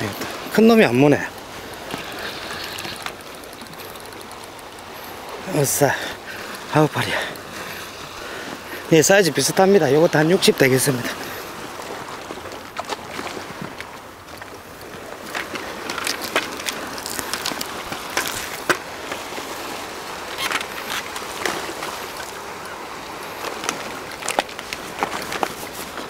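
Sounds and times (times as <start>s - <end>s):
surf washing on rocks: 0.0s - 26.0s.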